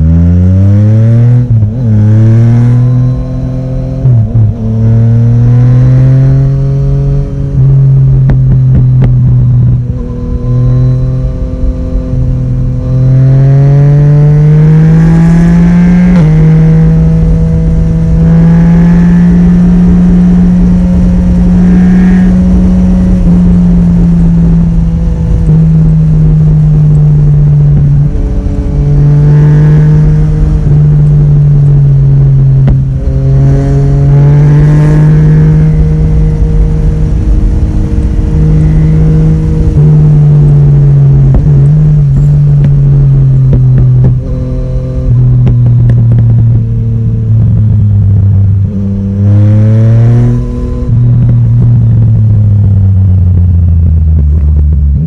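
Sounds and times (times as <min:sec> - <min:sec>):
motorcycle engine revving: 0:00.0 - 0:55.0
wind rushing on microphone: 0:05.6 - 0:55.0.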